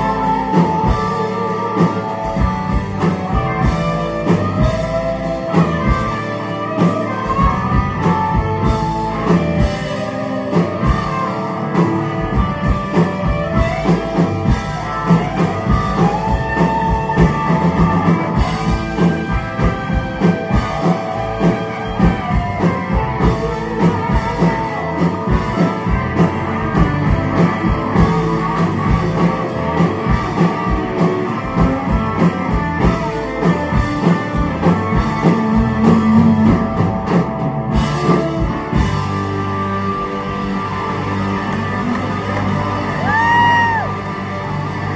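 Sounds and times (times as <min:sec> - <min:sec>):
bass guitar: 0:00.0 - 0:44.9
drum kit beat: 0:00.0 - 0:44.9
electric guitars: 0:00.0 - 0:44.9.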